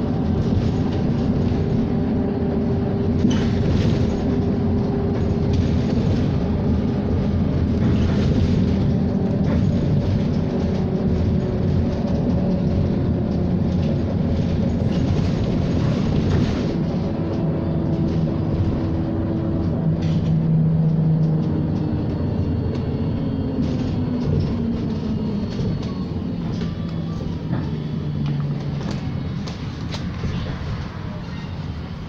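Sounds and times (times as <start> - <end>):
bus road and body noise: 0.0 - 32.0.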